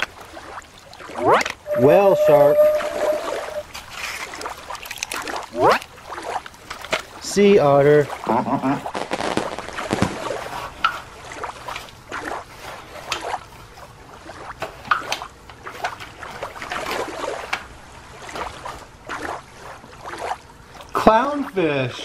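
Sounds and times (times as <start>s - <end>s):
water washing: 0.0s - 21.0s.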